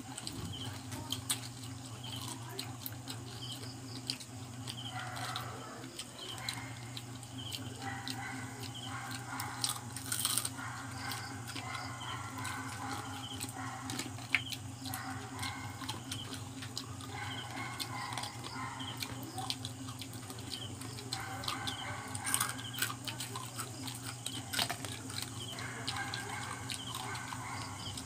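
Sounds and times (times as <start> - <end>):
crunching fried crab shells: 0.0 - 28.0
steady low hum: 0.0 - 28.0.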